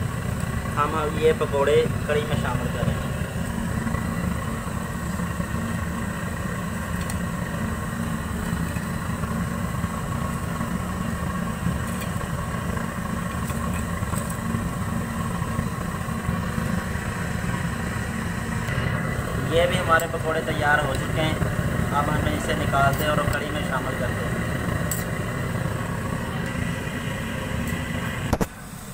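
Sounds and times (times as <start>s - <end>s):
gas burner roaring: 0.0s - 28.9s.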